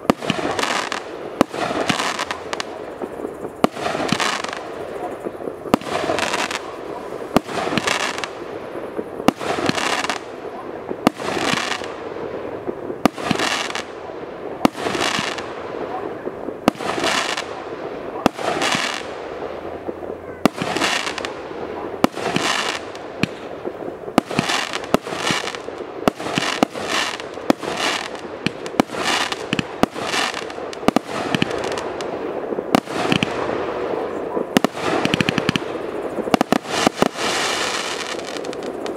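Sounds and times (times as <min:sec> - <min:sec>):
firework bangs: 0:00.0 - 0:38.9
firework crackle: 0:00.0 - 0:38.9.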